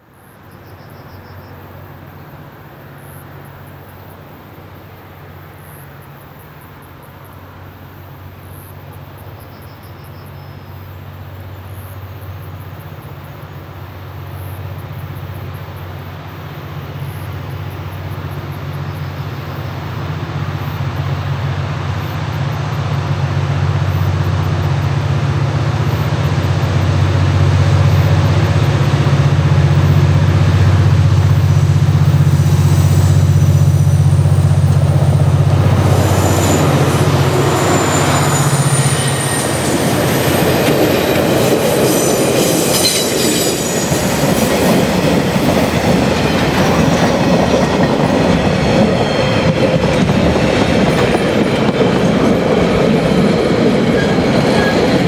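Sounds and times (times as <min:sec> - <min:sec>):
diesel locomotive engines droning: 0:00.0 - 0:55.0
train wheels on rails: 0:05.2 - 0:55.0.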